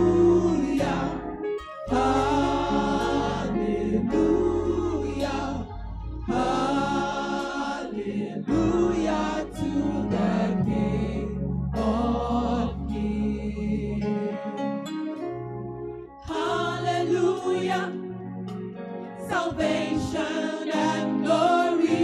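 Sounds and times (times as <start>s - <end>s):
choir singing a hymn: 0.0s - 14.8s, 16.2s - 18.6s, 19.2s - 22.0s
sustained low accompaniment: 0.0s - 20.2s.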